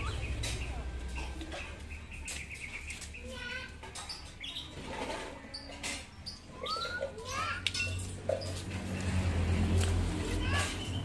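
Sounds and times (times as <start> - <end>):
birds chirping and whistling: 0.0 - 9.4, 10.3 - 11.0.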